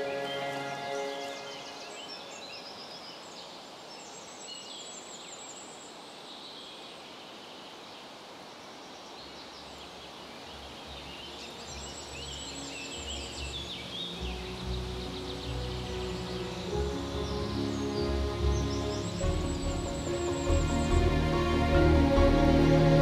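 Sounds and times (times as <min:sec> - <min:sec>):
small birds singing: 0:00.0 - 0:23.0
soft woodland hiss: 0:00.0 - 0:23.0.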